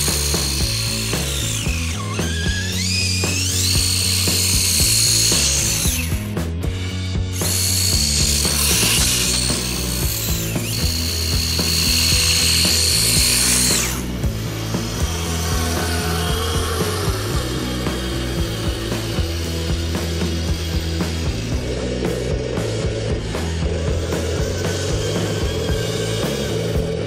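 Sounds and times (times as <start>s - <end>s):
rattling drive: 0.0s - 26.7s
electric motor whining: 0.0s - 27.0s
steady low hum: 0.0s - 27.0s.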